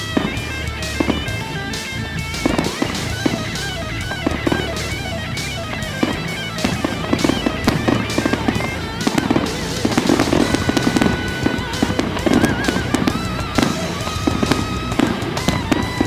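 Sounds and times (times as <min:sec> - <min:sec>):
fireworks bursting and crackling: 0:00.0 - 0:16.0
rock music with electric guitar: 0:00.0 - 0:16.0.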